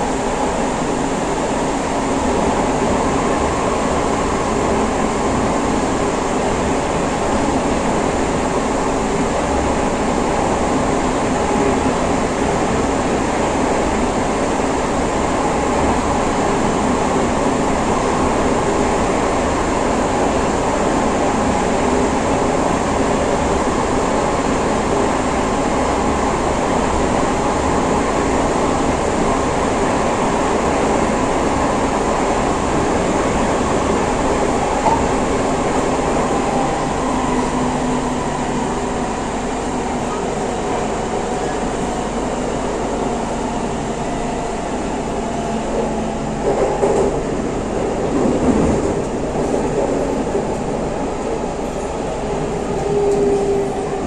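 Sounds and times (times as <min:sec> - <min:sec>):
metro train interior rumble: 0:00.0 - 0:54.0.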